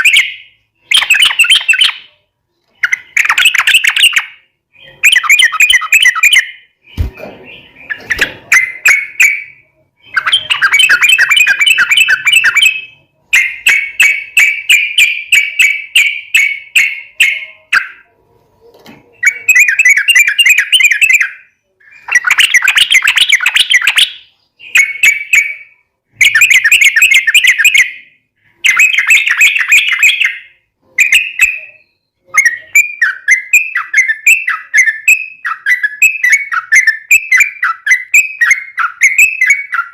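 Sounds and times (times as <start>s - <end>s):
bird singing rolling chatter: 0.0s - 39.9s.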